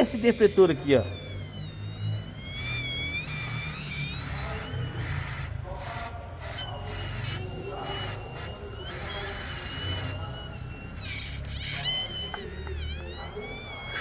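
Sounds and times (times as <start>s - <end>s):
wheel squealing: 0.0s - 5.7s, 6.4s - 14.0s.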